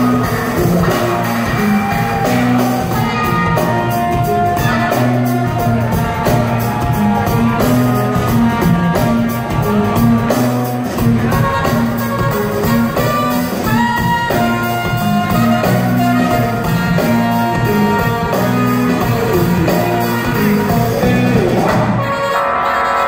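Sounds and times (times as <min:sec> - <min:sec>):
repeating bass line: 0:00.0 - 0:22.0
funk band playing live: 0:00.0 - 0:23.0.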